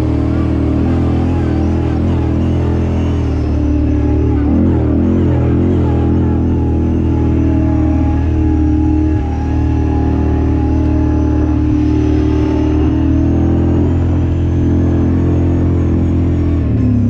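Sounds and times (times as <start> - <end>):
vehicle engine running steadily: 0.0 - 17.0.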